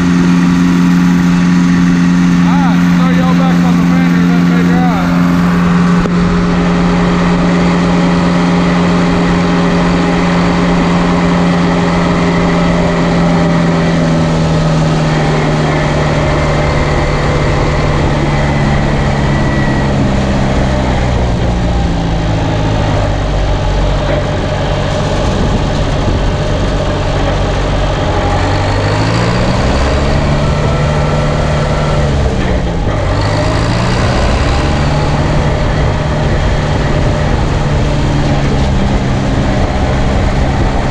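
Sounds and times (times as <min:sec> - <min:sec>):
tractor engine running loud: 0:00.0 - 0:40.9.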